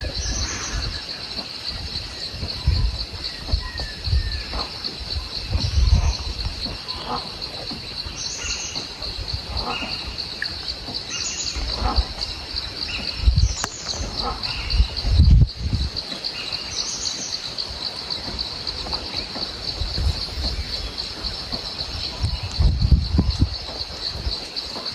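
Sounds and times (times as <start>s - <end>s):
low rumbles: 0.0s - 16.8s, 17.5s - 24.9s
insects trilling: 0.0s - 24.9s.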